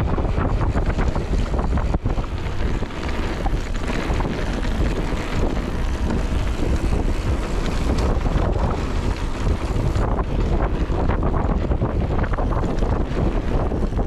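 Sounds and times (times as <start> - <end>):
bike clicks and rattles: 0.0 - 14.0
bike tyres on dirt trail: 0.0 - 14.0
wind buffeting microphone: 0.0 - 14.0.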